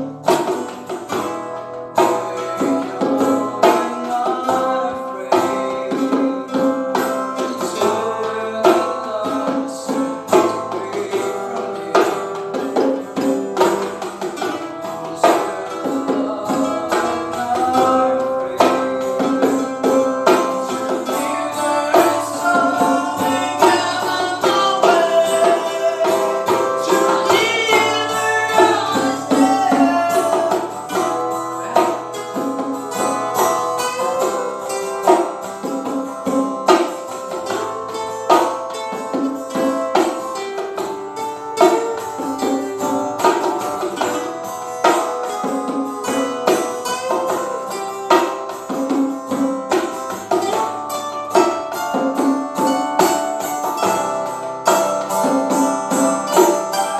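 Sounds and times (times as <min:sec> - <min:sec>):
band playing live music: 0:00.0 - 0:56.9
wavering lead melody: 0:00.0 - 0:56.9.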